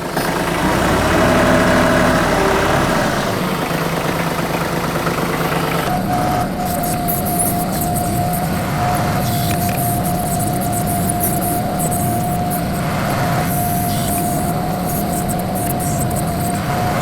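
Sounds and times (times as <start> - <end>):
tractor engine rumble: 0.0 - 17.0.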